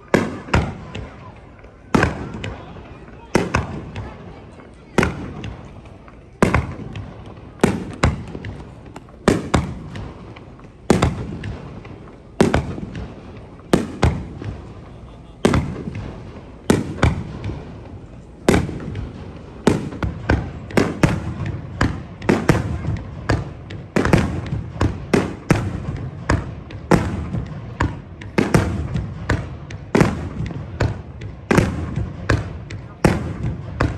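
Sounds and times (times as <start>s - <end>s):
fireworks bursting: 0.0s - 33.9s.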